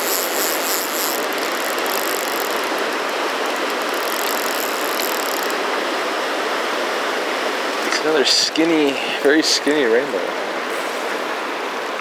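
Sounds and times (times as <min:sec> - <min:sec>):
river water over rocks: 0:00.0 - 0:12.0.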